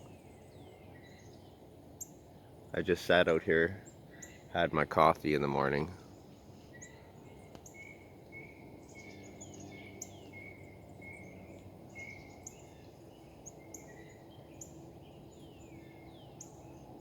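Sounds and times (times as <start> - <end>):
songbirds singing faintly: 0.0 - 17.0.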